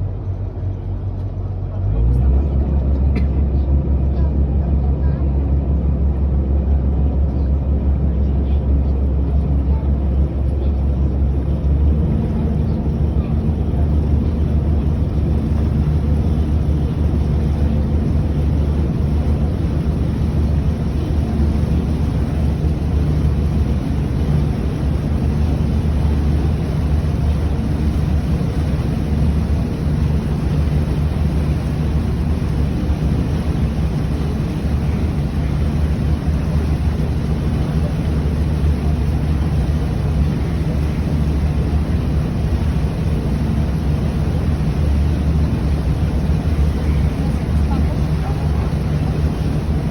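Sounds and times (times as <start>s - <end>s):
boat engine droning: 0.0s - 49.9s.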